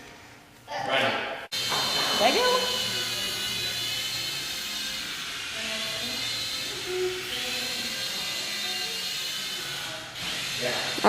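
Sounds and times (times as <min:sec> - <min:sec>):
toy helicopter motor whining: 0:01.6 - 0:11.0.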